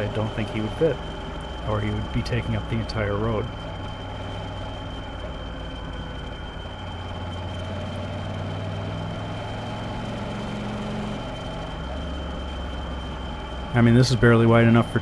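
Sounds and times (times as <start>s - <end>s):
motorcycle engine running: 0.0s - 15.0s
steady high whine: 0.0s - 15.0s
wind and road noise: 0.0s - 15.0s.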